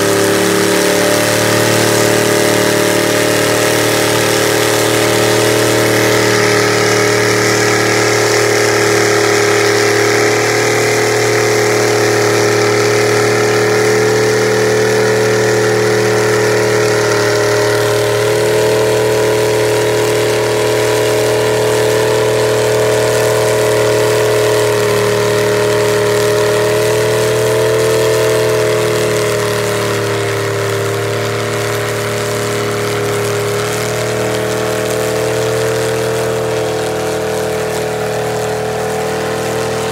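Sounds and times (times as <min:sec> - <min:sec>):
tires churning through mud: 0:00.0 - 0:39.9
truck engine at high revs: 0:00.0 - 0:39.9.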